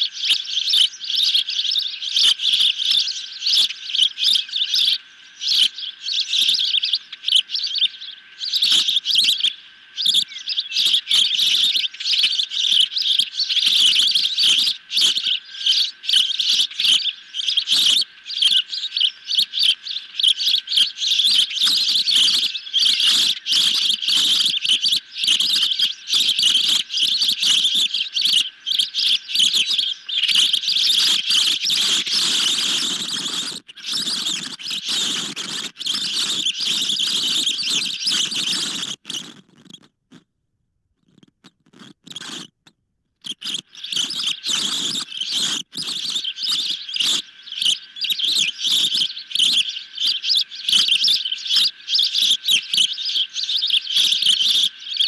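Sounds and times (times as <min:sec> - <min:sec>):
ospreys calling with piercing chirps: 0:00.0 - 0:40.2, 0:41.2 - 0:42.6, 0:43.2 - 0:55.0.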